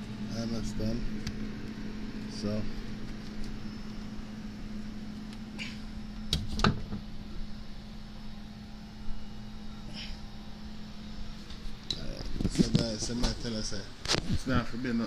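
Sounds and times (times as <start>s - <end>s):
refrigerator electrical hum: 0.0s - 15.0s.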